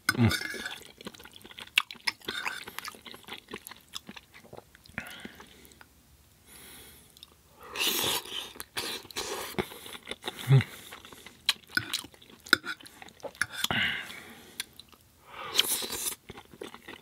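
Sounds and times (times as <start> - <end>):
wet chewing sounds: 0.3 - 5.9, 7.1 - 13.8, 15.6 - 17.0.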